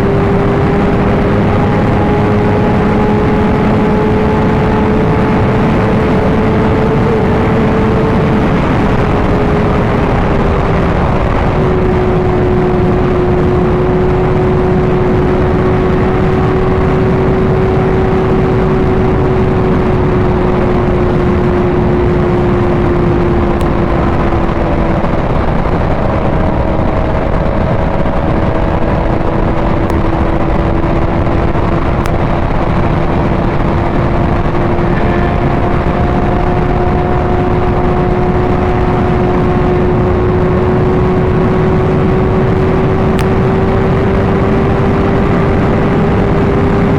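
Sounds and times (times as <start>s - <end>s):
motorcycle engine cruising: 0.0s - 46.9s
wind noise rushing: 0.0s - 46.9s.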